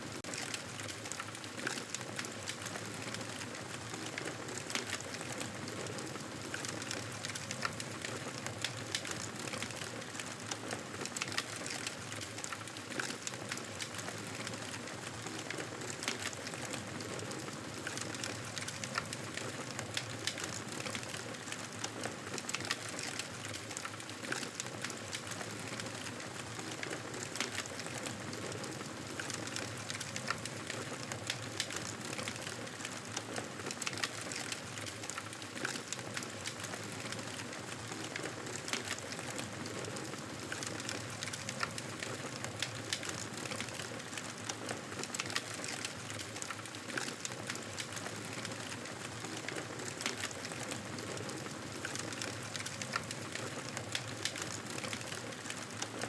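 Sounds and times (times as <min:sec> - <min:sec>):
campfire crackling and popping: 0:06.4 - 0:56.0.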